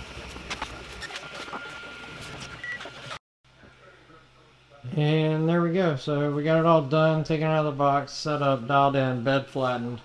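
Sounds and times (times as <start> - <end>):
cooling fans whirring: 0.0 - 10.0.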